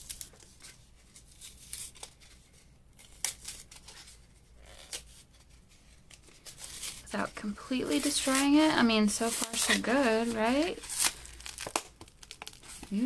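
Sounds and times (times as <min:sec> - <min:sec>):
paper rustling and ripping: 0:00.0 - 0:13.0.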